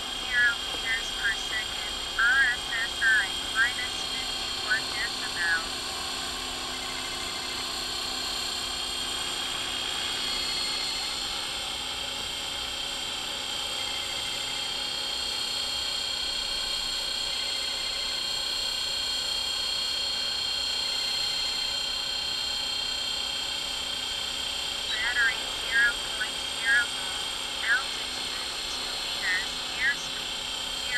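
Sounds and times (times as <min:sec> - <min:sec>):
model helicopter whine: 0:00.0 - 0:30.9.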